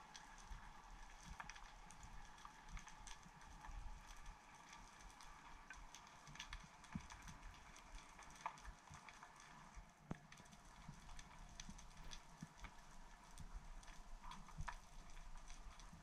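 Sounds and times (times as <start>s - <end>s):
low rumble of water: 0.0s - 16.0s
underwater clicks and crackles: 0.0s - 16.0s.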